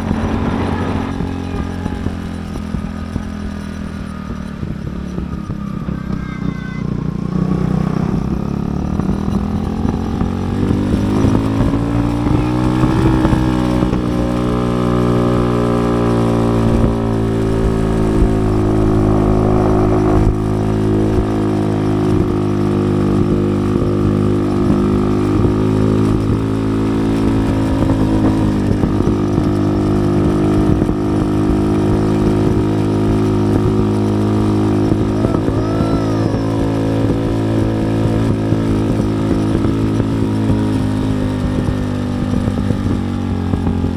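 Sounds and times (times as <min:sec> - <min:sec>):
motorcycle engine: 0:00.0 - 0:43.9.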